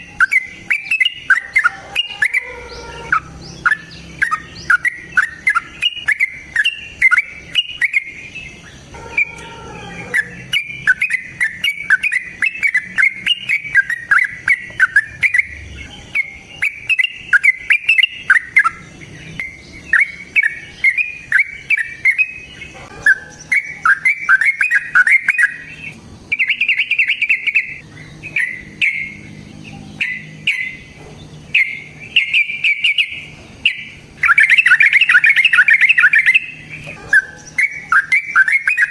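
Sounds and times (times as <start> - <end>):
bird chirping fast: 0.0 - 38.9.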